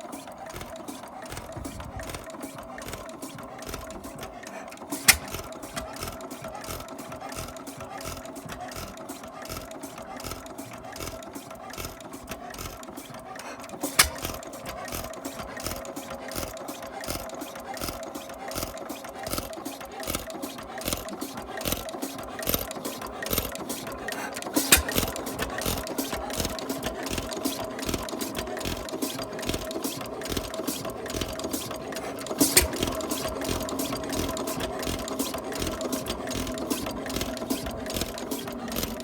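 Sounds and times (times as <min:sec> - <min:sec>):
stationary engine clattering: 0:00.0 - 0:39.0.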